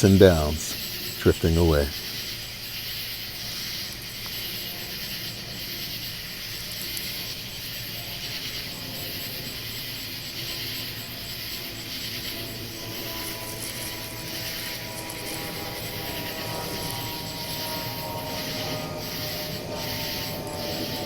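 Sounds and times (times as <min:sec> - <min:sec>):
cicadas chorus: 0:00.1 - 0:21.0.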